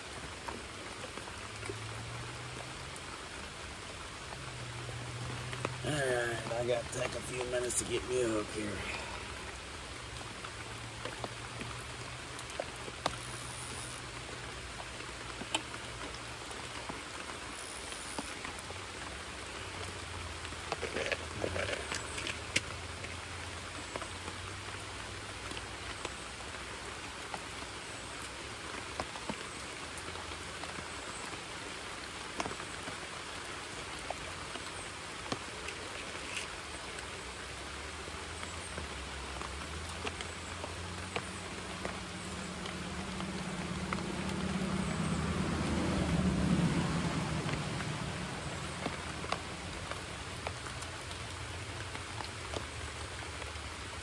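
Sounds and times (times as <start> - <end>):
rain on water and foliage: 0.0 - 54.0
rustle: 0.0 - 54.0.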